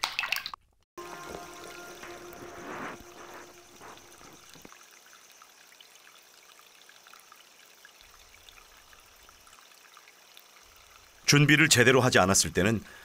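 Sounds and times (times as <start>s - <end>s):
water drips: 0.0s - 2.3s, 3.0s - 11.6s
faint trickling water: 0.0s - 13.0s.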